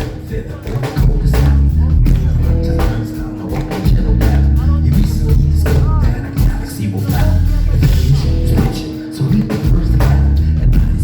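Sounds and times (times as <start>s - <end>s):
live band with bass drums guitar: 0.0s - 11.0s.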